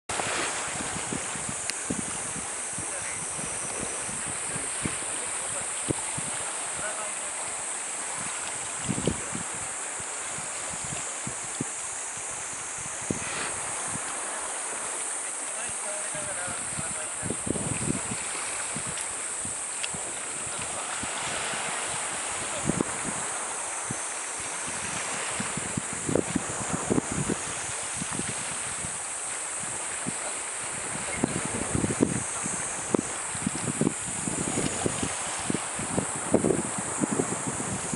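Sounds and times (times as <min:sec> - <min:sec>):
wind buffeting microphone: 0:00.1 - 0:15.0, 0:15.7 - 0:37.9
sea noise hiss: 0:00.1 - 0:37.9.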